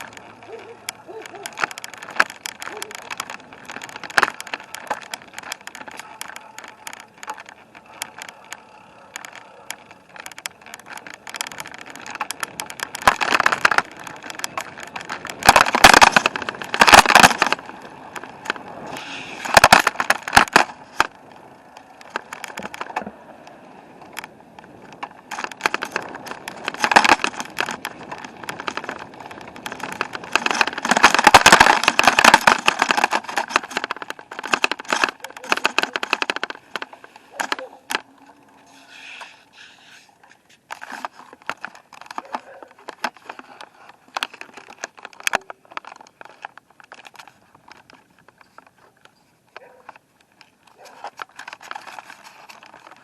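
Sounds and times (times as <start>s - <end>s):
bicycle rattling over rough surface: 0.0s - 53.0s.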